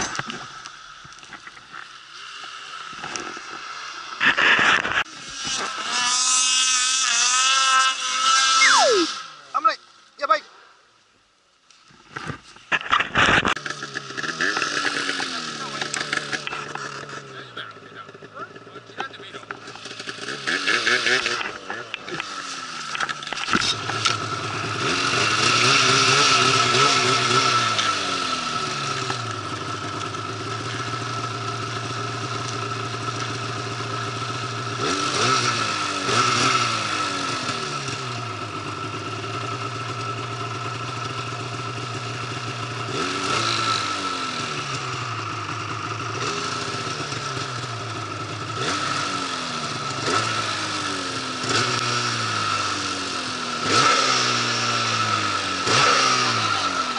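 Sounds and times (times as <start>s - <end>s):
snowmobile engine revving: 2.2s - 10.4s, 12.8s - 56.9s.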